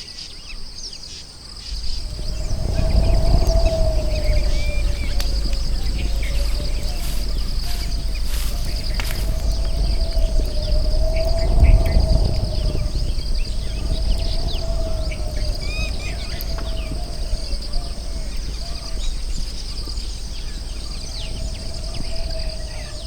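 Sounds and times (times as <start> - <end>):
insects droning: 0.0 - 23.0
wind rumble on microphone: 0.4 - 23.0
birds chirping: 1.6 - 23.0.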